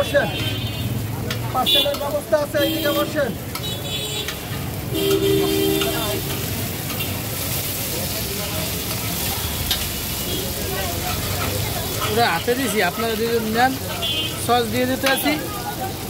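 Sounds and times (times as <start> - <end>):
meat sizzling: 0.0 - 16.0.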